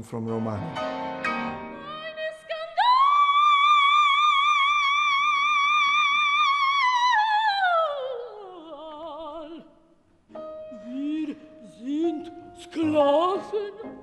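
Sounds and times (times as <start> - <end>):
operatic soprano singing: 1.8 - 9.8, 10.7 - 14.0.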